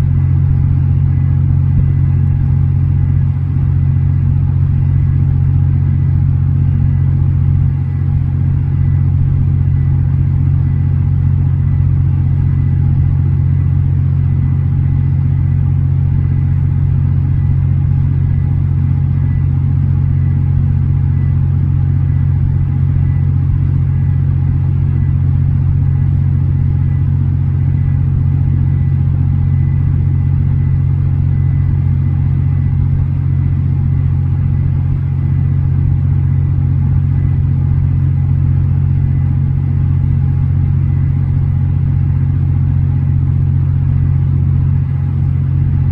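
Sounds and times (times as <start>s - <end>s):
engine droning: 0.0s - 45.9s
faint steady whine: 0.0s - 45.9s.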